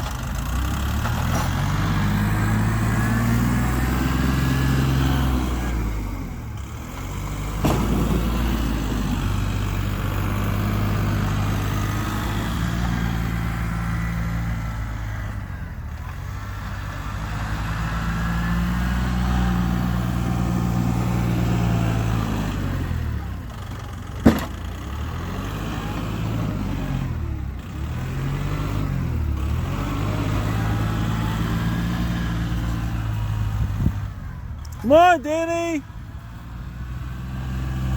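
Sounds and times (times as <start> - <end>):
snowplow engine revving: 0.0 - 37.9.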